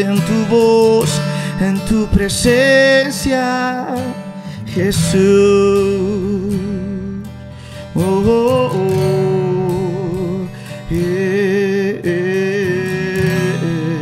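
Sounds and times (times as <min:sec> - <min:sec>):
acoustic guitar strumming: 0:00.0 - 0:14.0
man singing with vibrato: 0:00.0 - 0:14.0.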